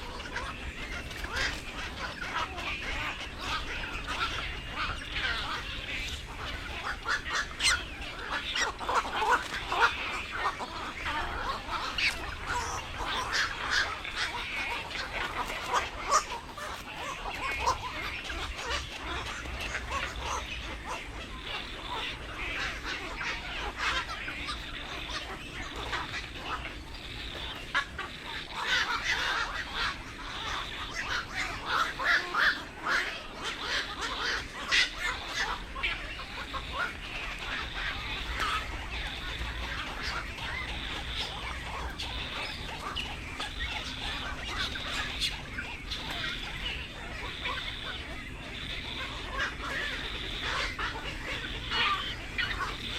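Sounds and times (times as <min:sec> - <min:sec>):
herons calling harshly: 0:00.0 - 0:52.9.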